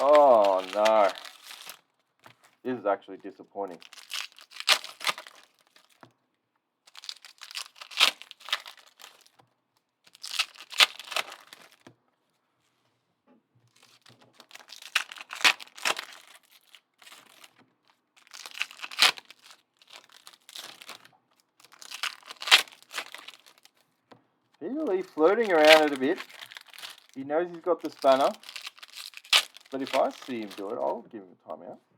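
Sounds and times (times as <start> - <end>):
wrappers tearing and crinkling: 0.0 - 2.6, 3.2 - 6.0, 6.9 - 9.4, 10.0 - 11.9, 13.7 - 23.8, 24.7 - 31.0.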